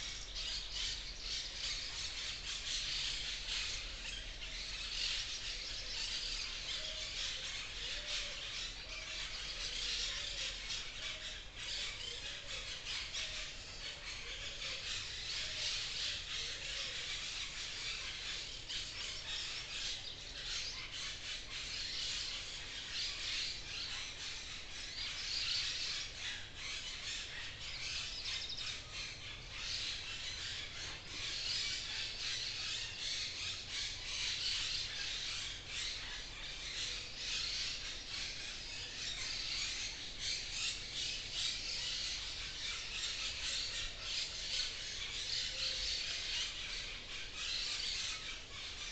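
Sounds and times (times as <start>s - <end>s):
birds chirping and calling: 0.0s - 48.9s
low repeated bird call: 0.0s - 48.9s.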